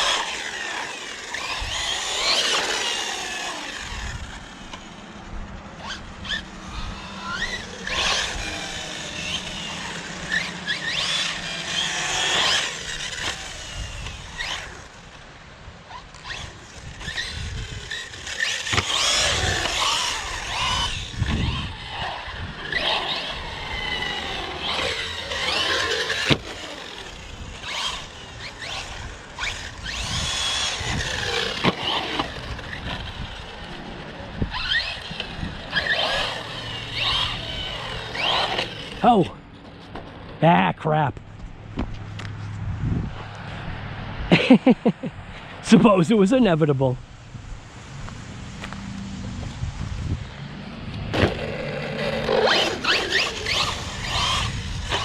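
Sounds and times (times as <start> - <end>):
tires squealing on concrete: 0.0 - 15.0, 15.9 - 40.3, 48.0 - 55.0
rc car motor whining: 0.0 - 15.3, 15.9 - 40.2, 48.6 - 55.0.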